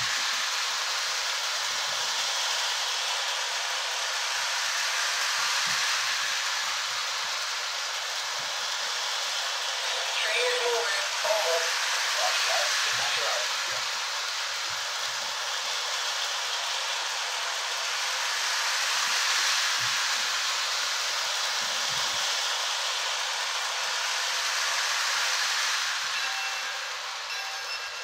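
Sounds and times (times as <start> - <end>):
steam sound effect hiss: 0.0 - 28.0
toy train running on track: 0.0 - 28.0.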